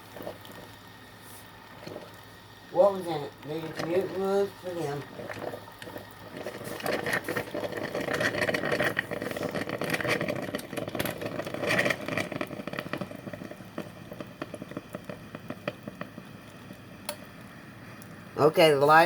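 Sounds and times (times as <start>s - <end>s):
coffee maker bubbling and crackling: 0.0s - 19.0s.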